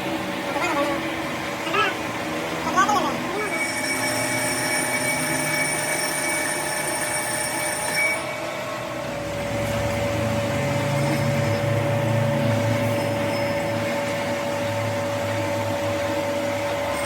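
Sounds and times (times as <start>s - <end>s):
workshop machine whining: 0.0s - 17.0s.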